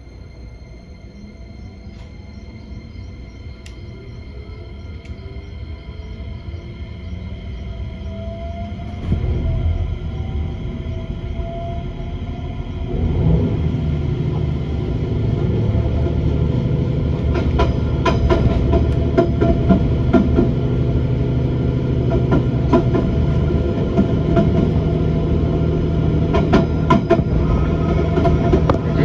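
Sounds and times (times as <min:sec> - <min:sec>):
passenger train running: 0:00.0 - 0:29.0.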